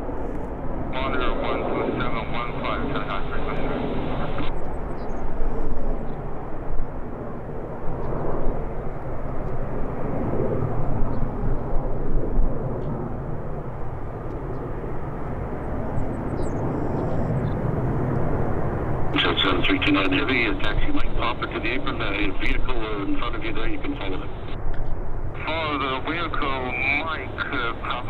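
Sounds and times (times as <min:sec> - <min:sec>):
jet engines low rumble: 0:00.0 - 0:28.0.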